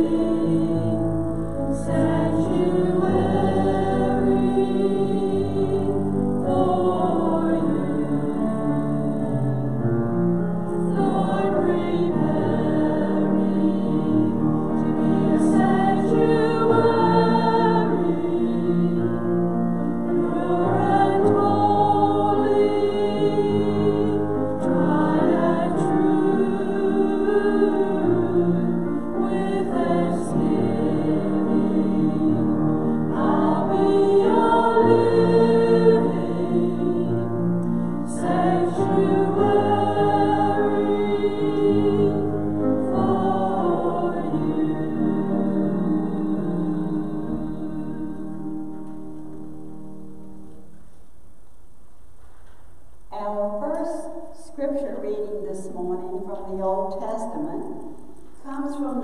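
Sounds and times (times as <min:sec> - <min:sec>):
choir singing slow worship song: 0:00.0 - 0:50.8.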